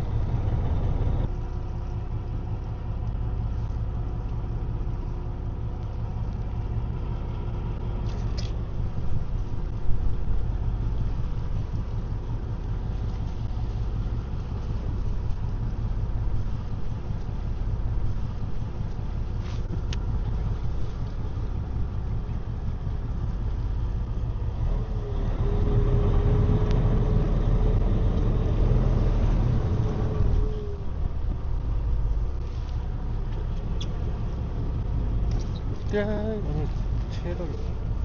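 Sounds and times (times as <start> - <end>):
boat engine rumbling: 0.0 - 38.0.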